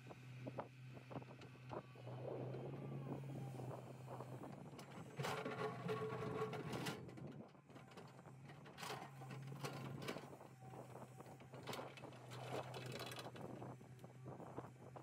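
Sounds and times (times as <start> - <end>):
excavator engine hum: 0.0 - 15.0.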